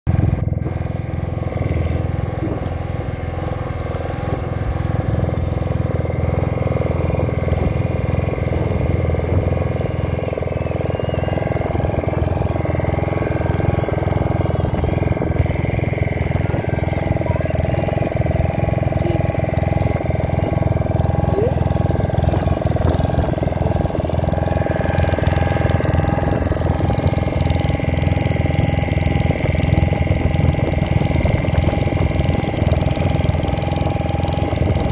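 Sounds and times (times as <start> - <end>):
boat engine low hum: 0.1 - 34.9.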